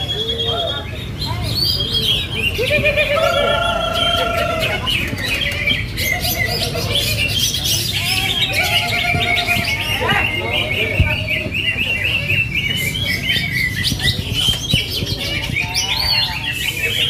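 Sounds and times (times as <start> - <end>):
low background hubbub: 0.0 - 17.0
songbirds singing: 0.0 - 17.0.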